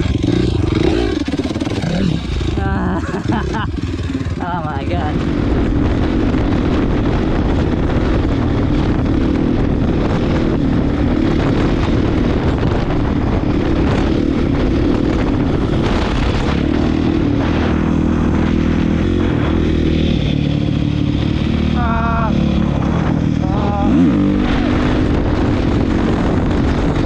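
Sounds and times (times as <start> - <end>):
loud dirt bike engine: 0.0 - 27.0.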